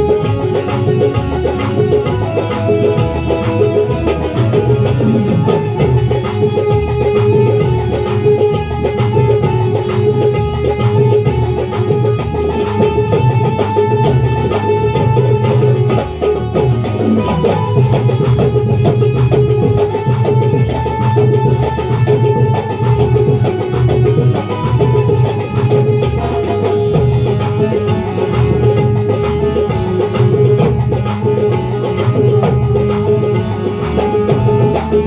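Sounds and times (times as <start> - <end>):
drums: 0.0 - 35.0.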